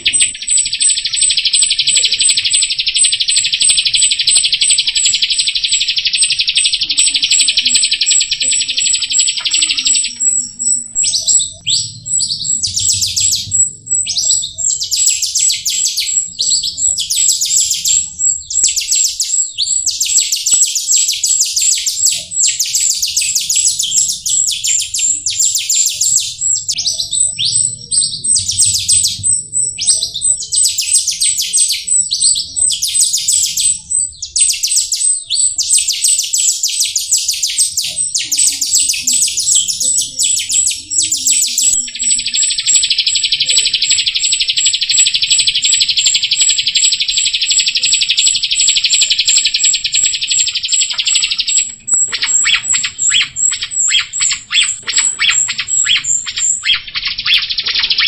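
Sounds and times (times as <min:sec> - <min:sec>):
thin high ticking whistle: 0:00.0 - 0:57.8
starling singing: 0:00.0 - 0:58.0.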